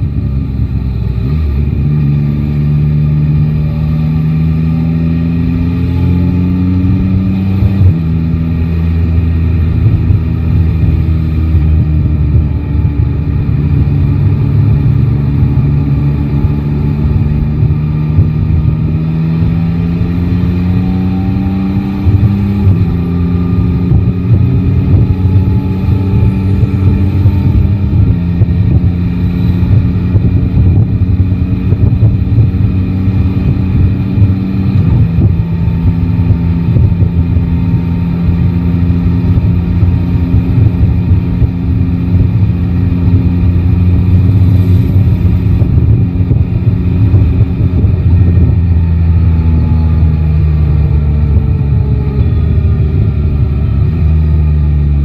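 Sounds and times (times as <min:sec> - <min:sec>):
low rumble: 0:00.0 - 0:55.0
motorcycle engine running: 0:00.0 - 0:55.0.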